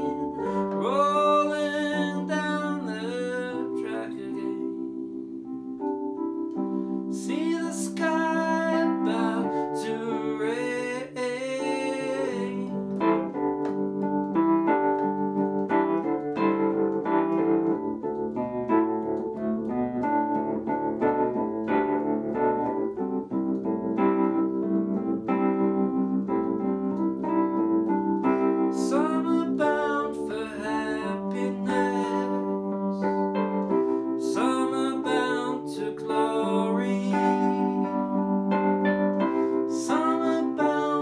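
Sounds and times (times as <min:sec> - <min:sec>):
electric piano chords and melody: 0:00.0 - 0:41.0.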